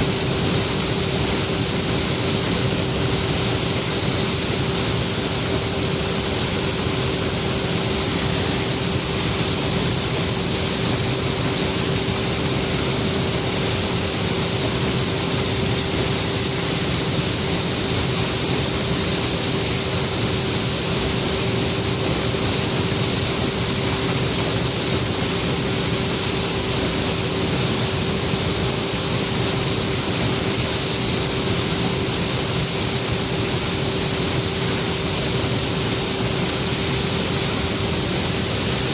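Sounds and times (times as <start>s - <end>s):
steady mechanical whine: 0.0s - 38.9s.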